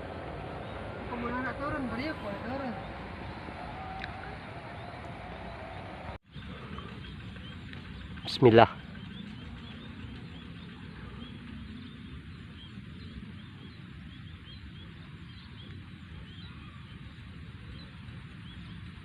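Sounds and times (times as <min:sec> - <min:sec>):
flock of small birds chirping: 0:00.0 - 0:19.0
steady low rumble: 0:00.0 - 0:19.0.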